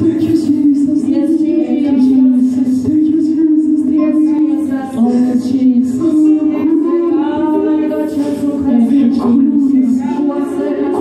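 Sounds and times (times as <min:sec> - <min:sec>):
worship team singing through microphones: 0:00.0 - 0:11.0.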